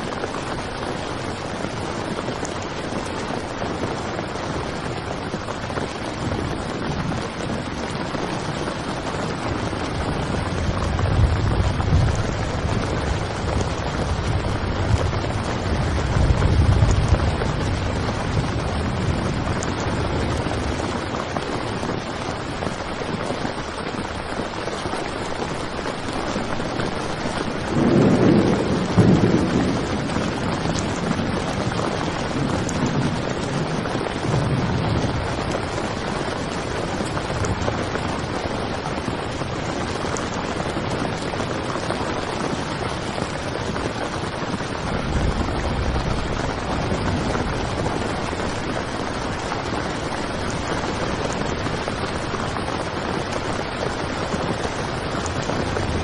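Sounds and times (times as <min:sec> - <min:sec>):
thunder rumbling: 0:00.0 - 0:24.3, 0:25.8 - 0:56.0
heavy rain on a tent: 0:00.0 - 0:56.0.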